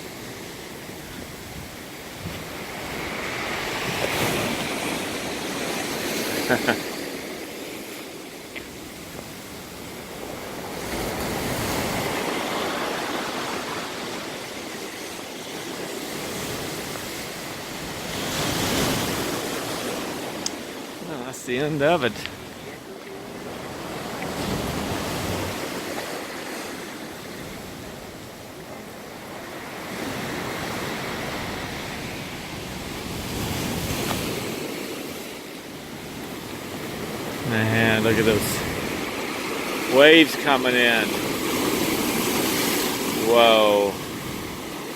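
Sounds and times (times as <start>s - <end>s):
ocean surf washing on shore: 0.0s - 44.9s.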